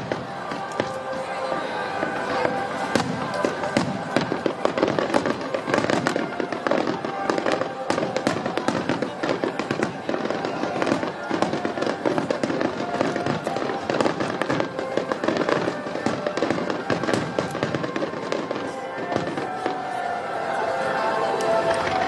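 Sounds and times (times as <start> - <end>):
firework shells bursting and crackling: 0.0 - 20.2.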